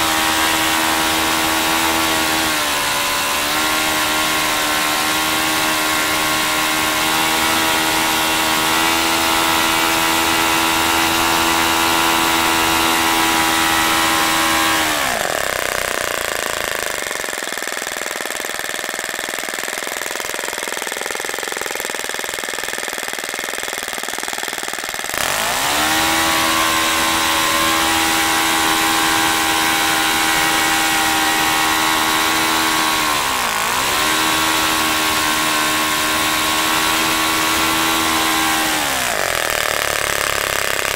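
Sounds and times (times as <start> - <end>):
model airplane engine: 0.0 - 40.9.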